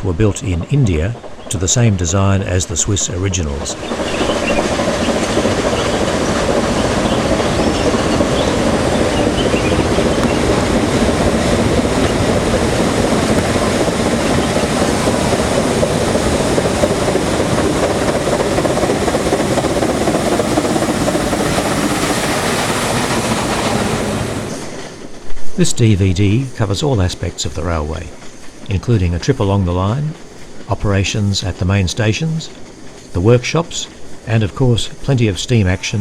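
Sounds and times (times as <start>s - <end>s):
train rumbling and rattling: 0.0s - 36.0s.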